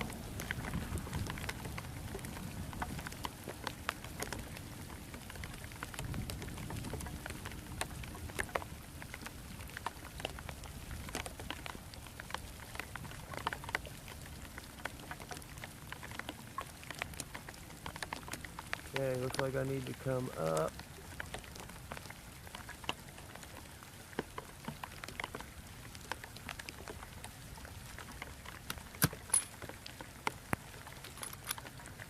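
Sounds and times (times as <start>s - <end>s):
heavy rain falling: 0.0s - 32.0s
raindrops ticking close by: 0.0s - 32.0s.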